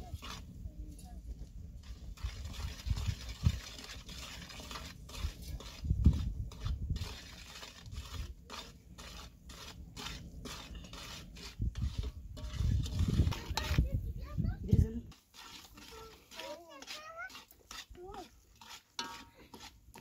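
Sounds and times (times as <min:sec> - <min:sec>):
ladle scraping metal pot: 0:00.0 - 0:01.0, 0:01.6 - 0:20.0.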